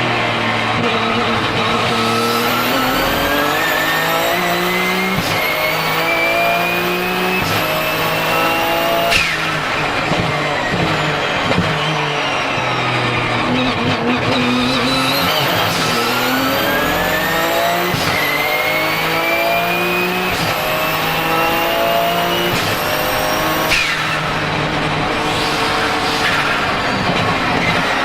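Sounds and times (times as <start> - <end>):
race car engine accelerating: 0.0 - 28.0
high turbo whistle: 0.8 - 12.9, 14.4 - 28.0.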